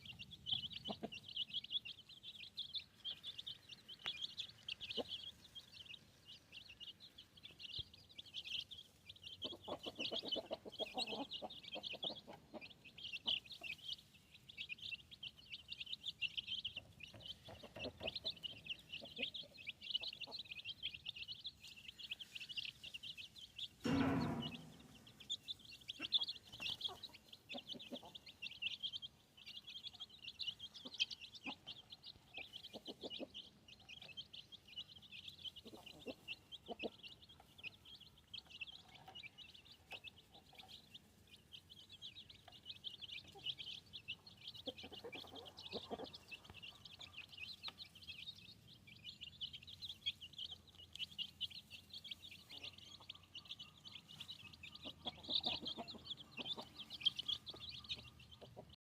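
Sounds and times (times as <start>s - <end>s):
chicks peeping: 0.0s - 58.8s.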